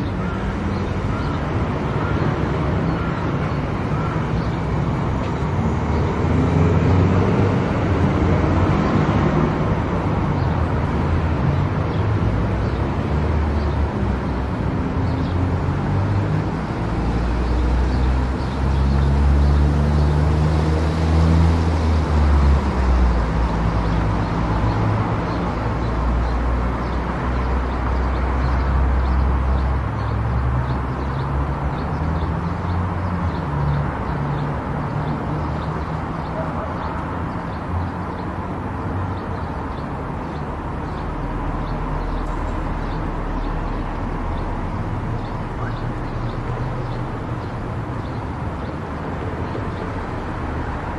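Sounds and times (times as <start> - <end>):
tyre and road noise: 0.0 - 50.9.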